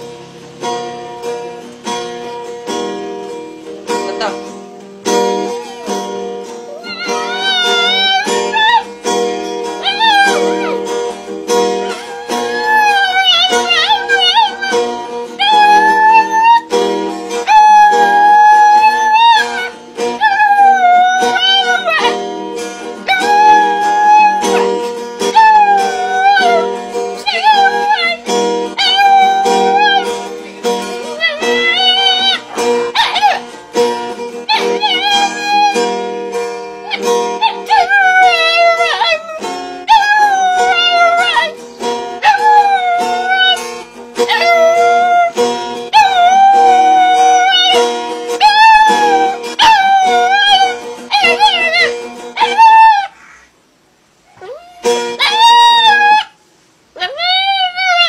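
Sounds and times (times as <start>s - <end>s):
music: 0.0s - 53.8s, 54.6s - 58.0s
dog howling: 5.3s - 8.9s, 9.8s - 22.3s, 23.0s - 33.6s, 34.3s - 36.0s, 36.8s - 43.6s, 44.2s - 53.4s, 54.3s - 56.4s, 57.0s - 58.0s.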